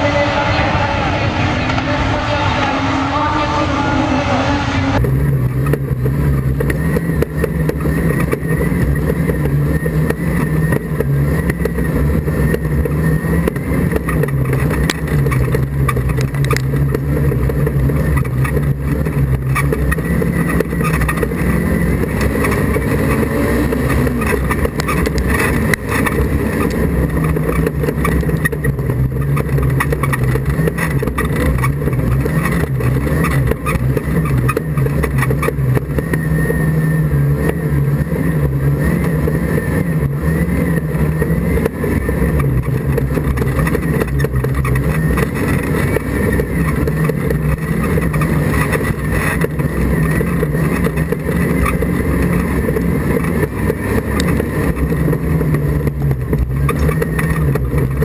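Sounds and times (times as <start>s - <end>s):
racing car engine revving: 0.0s - 58.0s
car knocks and rattles: 5.0s - 58.0s.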